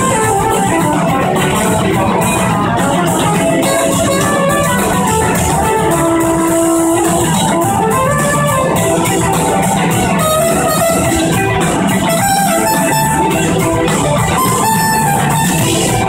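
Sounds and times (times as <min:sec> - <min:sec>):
live blues-rock band: 0:00.0 - 0:16.0
trumpet sustained notes: 0:00.0 - 0:16.0.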